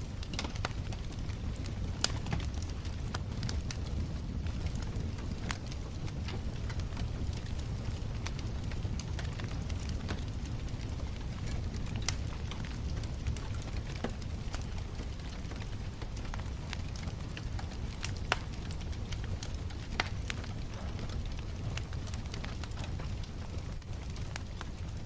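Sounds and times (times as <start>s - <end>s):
bonfire crackling and popping: 0.0s - 25.0s
low rumble of burning fire: 0.0s - 25.0s.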